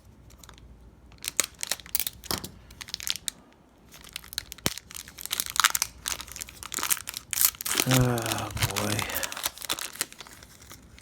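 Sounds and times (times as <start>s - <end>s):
plastic wrapper crinkling and tearing: 0.3s - 11.0s.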